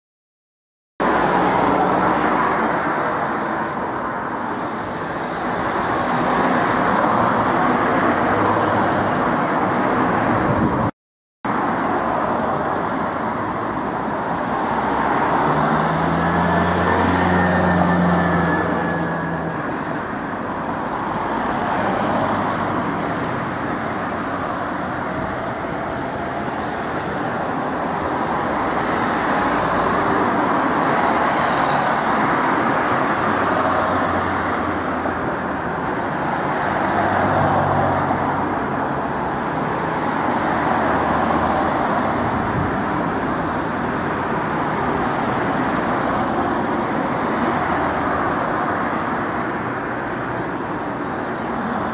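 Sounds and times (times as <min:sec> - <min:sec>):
cars passing: 0:01.0 - 0:10.9, 0:11.5 - 0:51.9.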